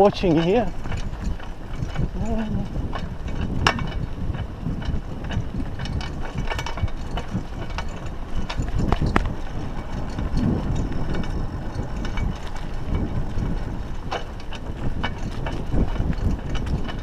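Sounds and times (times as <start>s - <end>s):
bike clicks and rattles: 0.0s - 17.0s
tyres rumbling on dirt: 0.0s - 17.0s.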